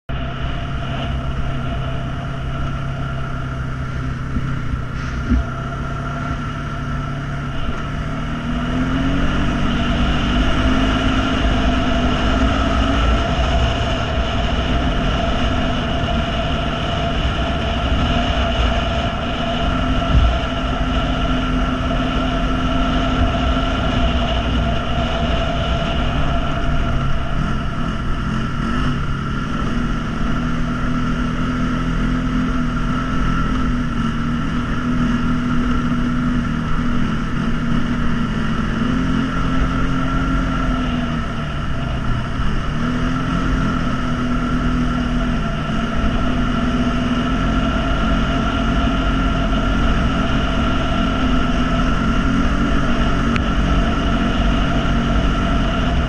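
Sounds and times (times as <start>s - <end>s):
atv engine running: 0.0s - 56.0s
low rumble: 0.0s - 56.0s.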